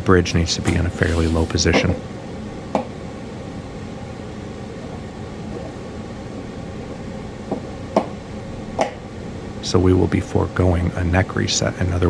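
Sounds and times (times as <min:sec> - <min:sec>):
room hiss and hum: 0:00.0 - 0:12.0.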